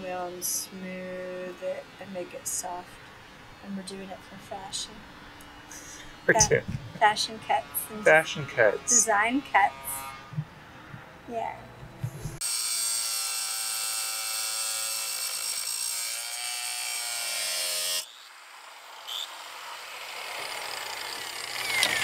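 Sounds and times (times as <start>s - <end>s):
power tool cutting metal: 0.0s - 10.6s, 12.0s - 22.0s.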